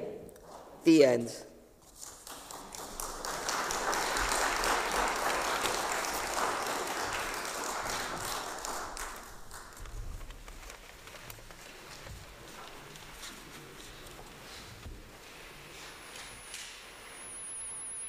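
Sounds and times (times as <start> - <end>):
congregation applauding: 2.0 - 16.7.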